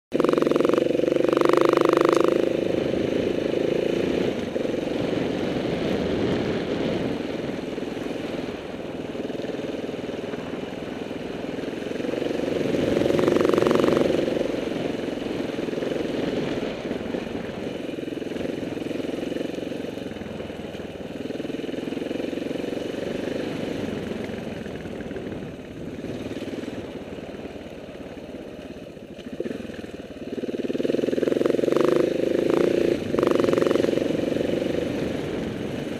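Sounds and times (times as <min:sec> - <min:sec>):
motorcycle engine running: 0:00.1 - 0:35.9
wind: 0:00.1 - 0:35.9.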